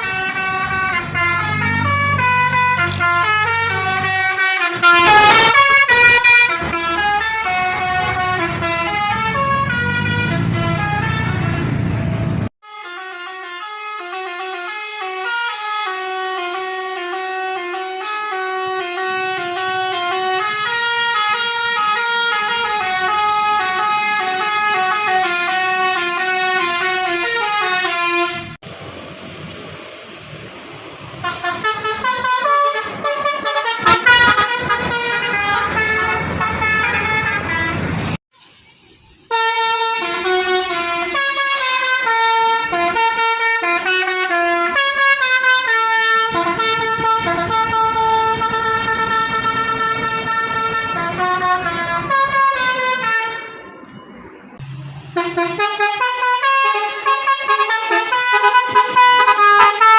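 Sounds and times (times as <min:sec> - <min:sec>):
musical air horns playing a tune: 0:00.0 - 0:11.8, 0:12.6 - 0:28.6, 0:31.2 - 0:38.0, 0:39.3 - 0:53.6, 0:55.2 - 0:59.9
street background noise: 0:00.0 - 0:13.0, 0:14.3 - 0:59.9.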